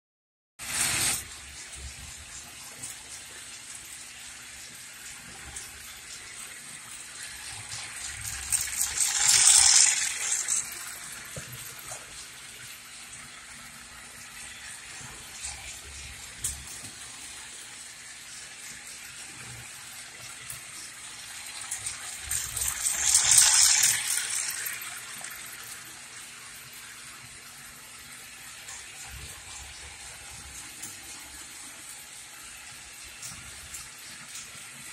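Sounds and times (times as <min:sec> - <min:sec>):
toy train hissing rattle: 0:00.6 - 0:34.9.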